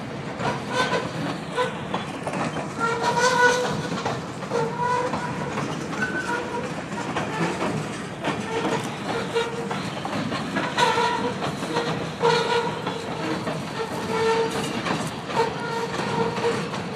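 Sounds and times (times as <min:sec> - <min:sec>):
freight train wheels clattering: 0:00.0 - 0:16.9.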